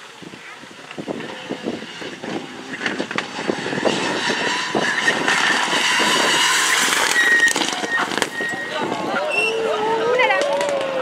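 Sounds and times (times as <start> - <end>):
rally car engine at full throttle: 0.0 - 11.0
exhaust pops and crackles: 0.2 - 9.2, 10.3 - 11.0.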